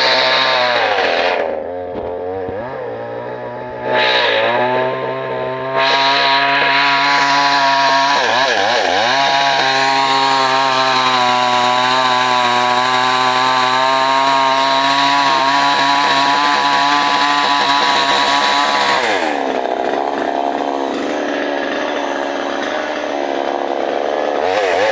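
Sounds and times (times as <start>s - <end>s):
chainsaw engine running: 0.0s - 24.9s.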